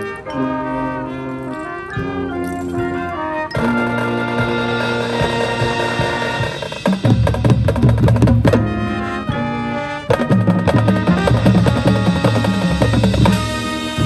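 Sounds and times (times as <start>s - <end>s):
sustained brass chords: 0.0s - 7.2s, 8.4s - 14.0s
drumline beating: 0.0s - 14.0s
marching band playing: 0.0s - 14.0s.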